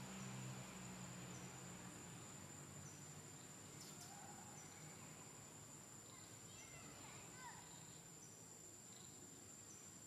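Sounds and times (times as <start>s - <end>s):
high-pitched insect whine: 0.0s - 10.0s.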